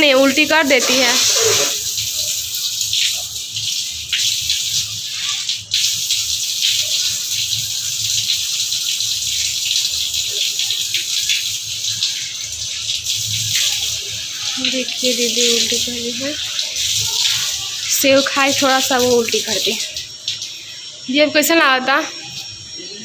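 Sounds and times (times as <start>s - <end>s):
water running from tap: 0.0s - 23.0s.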